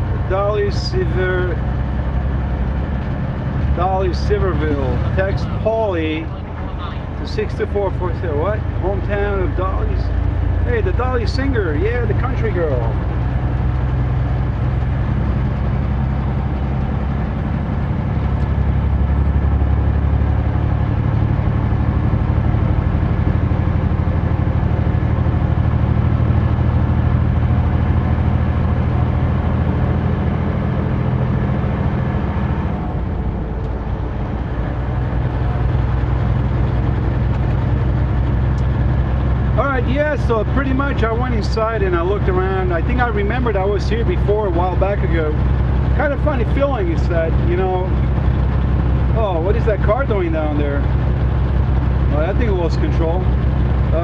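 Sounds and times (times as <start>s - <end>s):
diesel truck engine drone: 0.0s - 54.0s
road noise: 0.0s - 54.0s.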